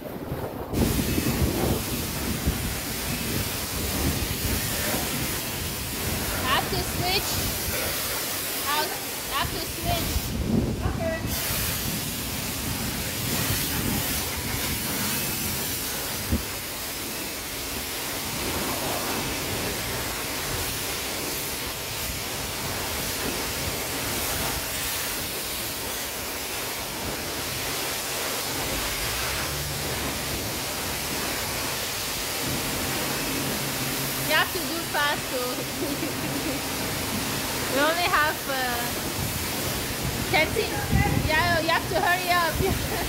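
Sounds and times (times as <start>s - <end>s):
pressure washer spraying water: 0.1s - 43.0s.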